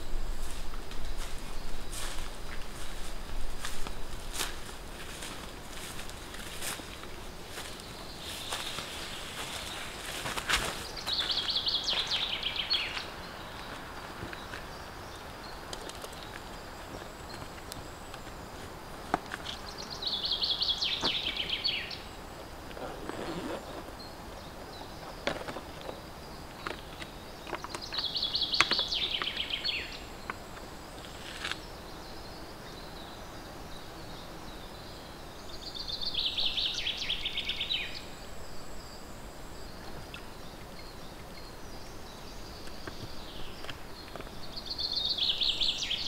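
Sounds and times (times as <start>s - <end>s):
faint high insect hum: 0.0s - 46.0s
songbird trill: 0.0s - 46.0s.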